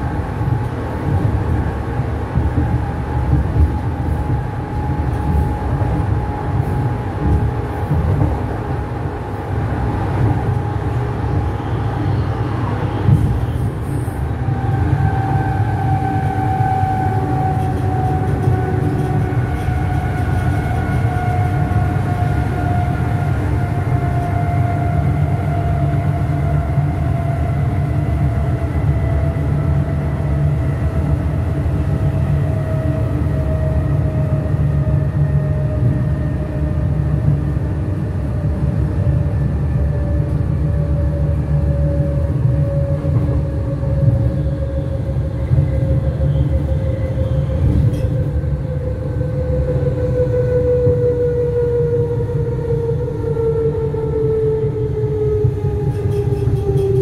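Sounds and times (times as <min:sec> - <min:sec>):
electric train rumbling: 0:00.0 - 0:57.0.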